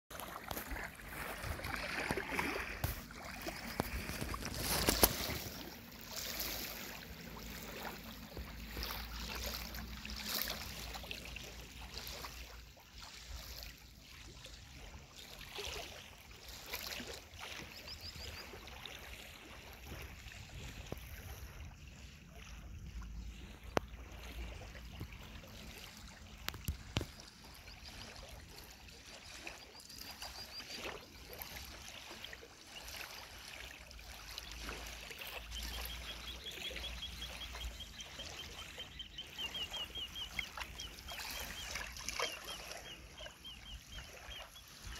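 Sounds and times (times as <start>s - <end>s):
waves lapping on riverbank: 0.1s - 44.9s.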